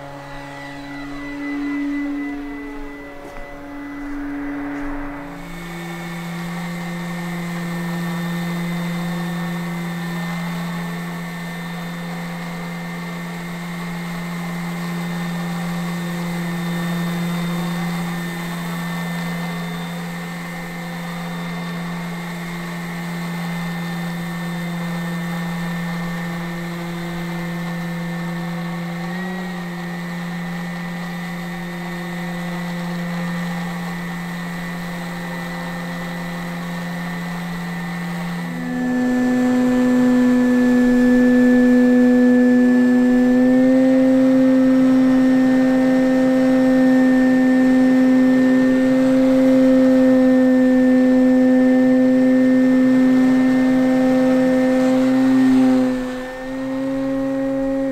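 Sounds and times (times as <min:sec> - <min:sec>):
electric motor and propeller whine: 0:00.0 - 0:57.9.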